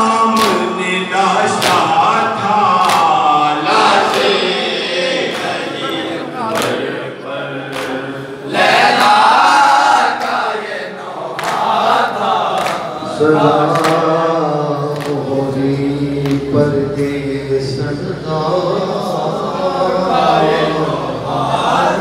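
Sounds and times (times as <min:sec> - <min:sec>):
men chanting a lament through loudspeaker: 0:00.0 - 0:22.0.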